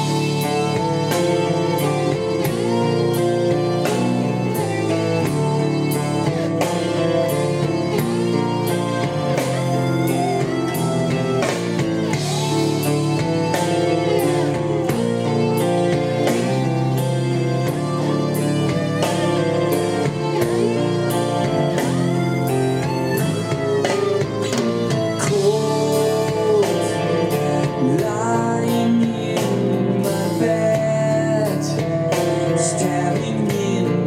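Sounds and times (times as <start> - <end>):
guitar music with drum beat: 0.0 - 34.0.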